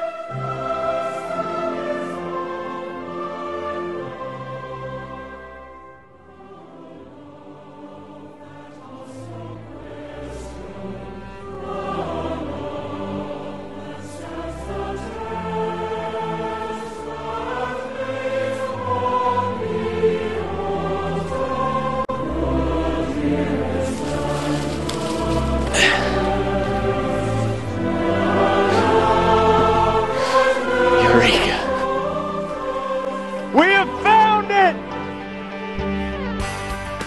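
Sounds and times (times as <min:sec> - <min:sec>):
choir singing held notes: 0:00.0 - 0:35.8.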